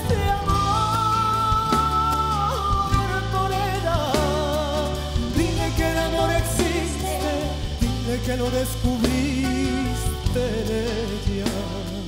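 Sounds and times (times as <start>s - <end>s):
instrumental accompaniment with bass: 0.0s - 12.0s
man singing with vibrato: 0.0s - 12.0s.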